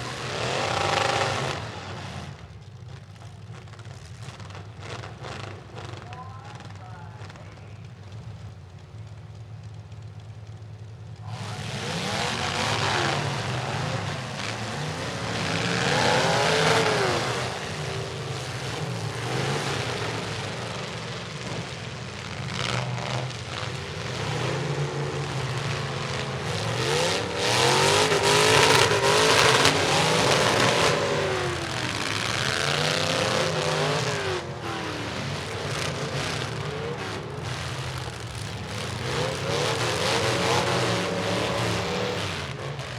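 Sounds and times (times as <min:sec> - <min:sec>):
truck engines revving: 0:00.0 - 0:42.9.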